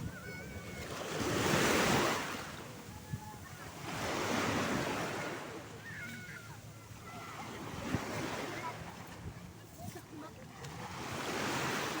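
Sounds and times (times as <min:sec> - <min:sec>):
sea waves washing in: 0:00.0 - 0:12.0.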